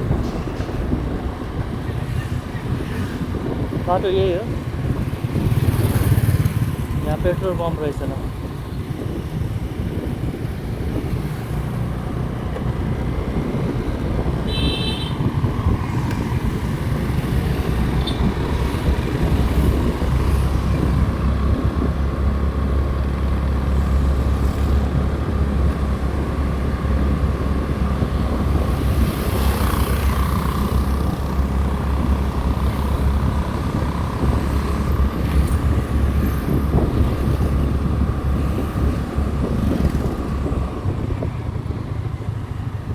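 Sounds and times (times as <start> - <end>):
motorcycle engine and road rumble: 0.0 - 42.9.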